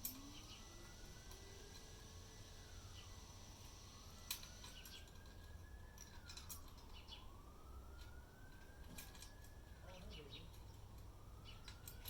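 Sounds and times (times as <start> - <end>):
faint wailing siren: 0.0 - 12.0.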